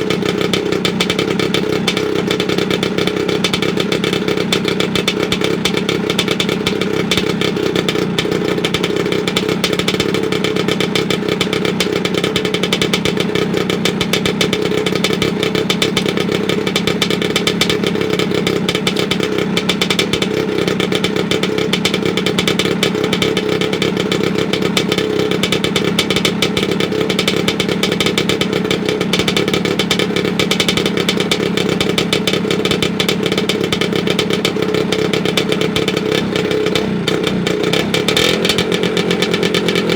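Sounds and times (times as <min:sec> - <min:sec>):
two-stroke scooter engine running: 0:00.0 - 0:39.9.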